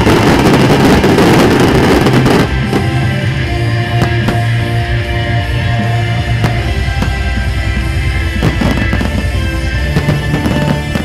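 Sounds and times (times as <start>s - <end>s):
fireworks bursting and crackling: 0.0s - 11.0s
loud music: 0.0s - 11.0s.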